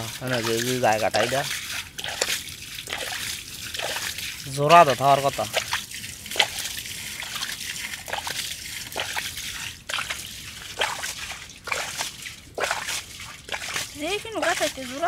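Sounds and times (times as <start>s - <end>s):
bare feet squelching through mud: 0.0s - 15.0s.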